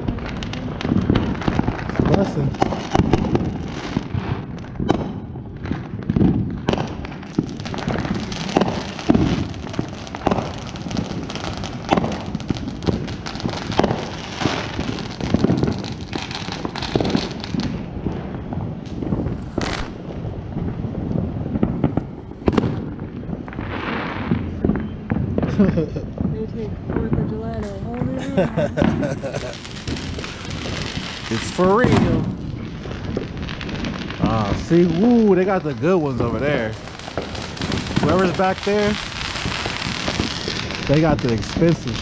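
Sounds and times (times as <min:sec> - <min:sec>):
crackling hiss of fireworks: 0:00.0 - 0:42.0
fireworks bangs and booms: 0:00.0 - 0:42.0.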